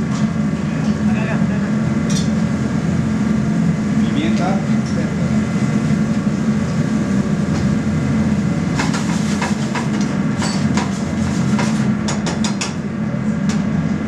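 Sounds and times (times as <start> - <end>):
low kitchen hum: 0.0 - 14.0.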